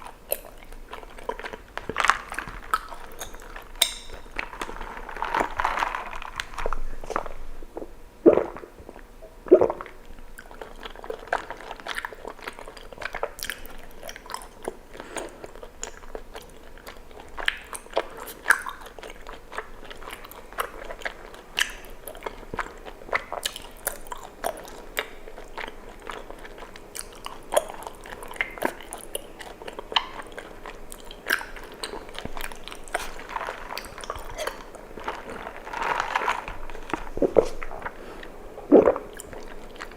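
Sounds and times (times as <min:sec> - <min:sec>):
wet sticky chewing sounds: 0:00.0 - 0:39.9.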